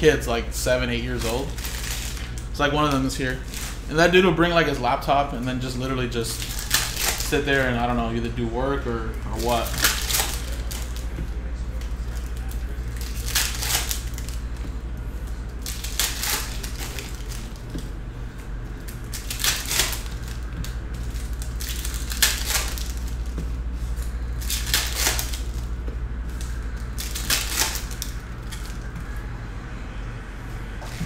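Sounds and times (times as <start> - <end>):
steady low hum: 0.0 - 31.0
plastic wrappers crinkling: 0.2 - 4.8, 5.4 - 14.6, 15.3 - 17.8, 18.8 - 29.0.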